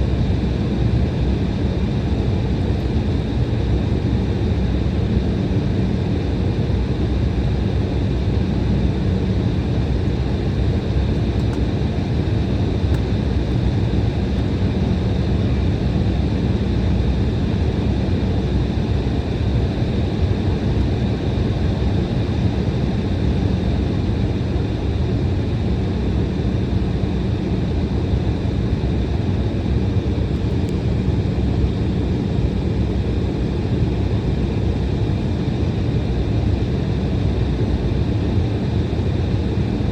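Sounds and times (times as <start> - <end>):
jet engines running at low power: 0.0 - 39.9.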